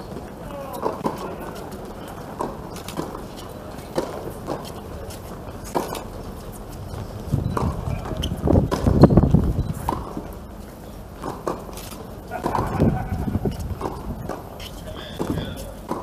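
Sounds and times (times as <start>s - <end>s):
players' footsteps: 0.0s - 16.0s
tennis ball bounces: 0.1s - 10.5s, 11.1s - 16.0s.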